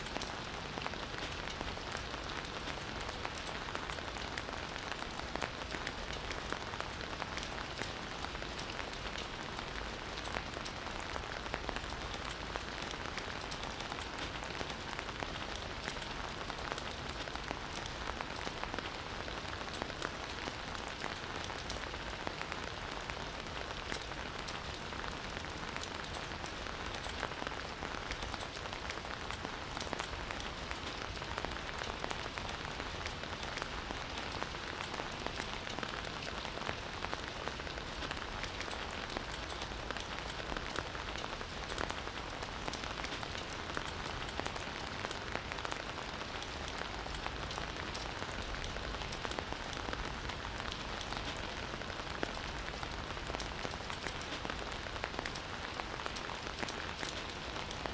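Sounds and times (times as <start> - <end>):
campfire crackling: 0.1 - 57.9.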